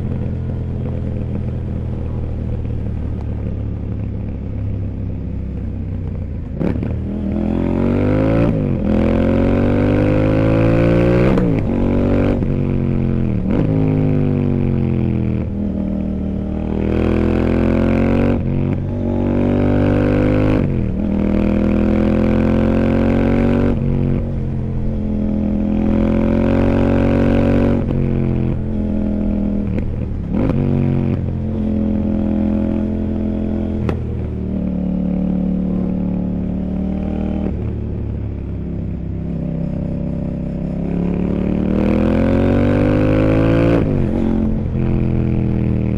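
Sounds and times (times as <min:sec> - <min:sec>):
motorcycle engine revving and shifting: 0:00.0 - 0:45.9.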